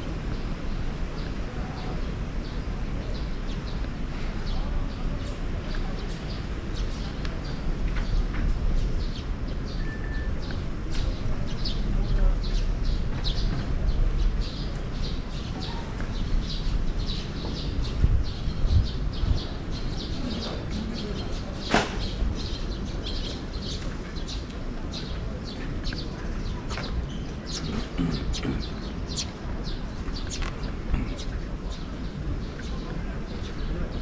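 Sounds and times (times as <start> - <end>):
city and wind rumble: 0.0 - 34.0
small birds chirping: 0.0 - 34.0.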